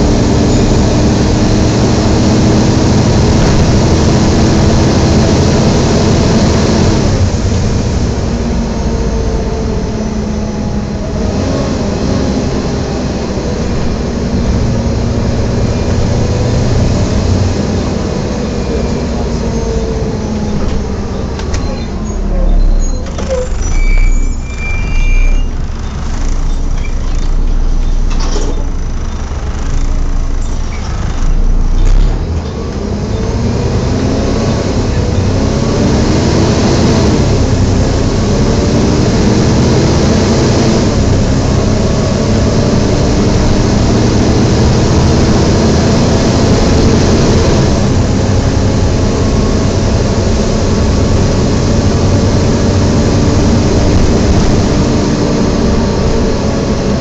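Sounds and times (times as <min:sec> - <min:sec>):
engine cooling fan whoosh: 0:00.0 - 0:21.4, 0:25.6 - 0:57.0
bus engine: 0:00.0 - 0:57.0.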